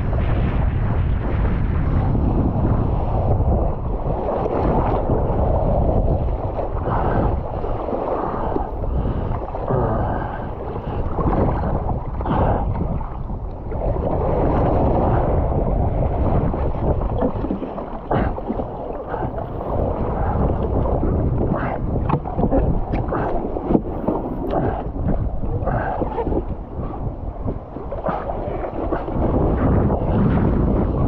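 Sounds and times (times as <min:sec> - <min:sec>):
sea water sloshing and splashing: 0:00.0 - 0:31.0
wind buffeting microphone: 0:00.0 - 0:31.0.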